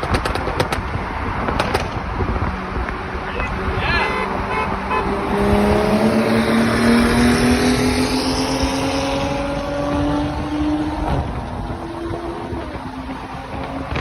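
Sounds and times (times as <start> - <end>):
car engine accelerating: 0.2 - 14.0.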